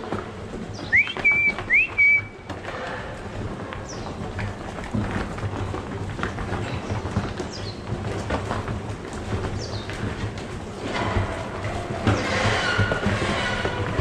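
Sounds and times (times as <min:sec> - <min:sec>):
cows shuffling: 0:00.0 - 0:14.0
hooves clattering on barn floor: 0:00.0 - 0:14.0.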